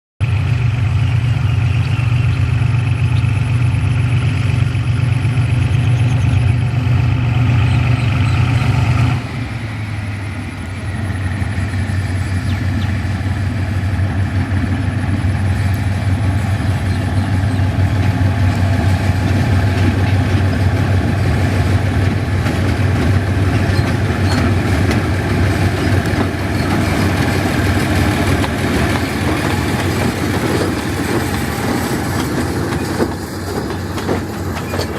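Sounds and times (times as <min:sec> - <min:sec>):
diesel locomotive engine running: 0:00.2 - 0:34.9.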